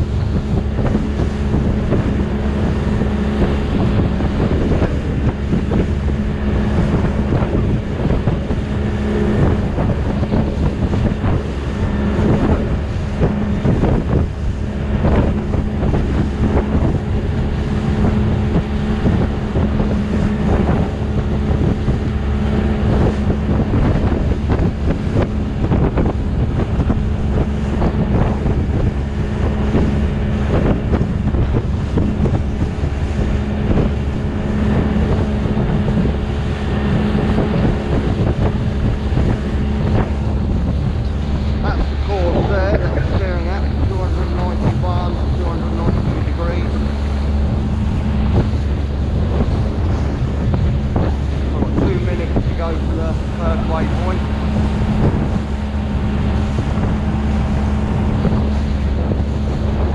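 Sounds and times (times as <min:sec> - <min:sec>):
outboard motor running: 0:00.0 - 0:59.9
rushing water: 0:00.0 - 0:59.9
waves slapping against hull: 0:00.0 - 0:59.9
wind noise on microphone: 0:00.0 - 0:59.9.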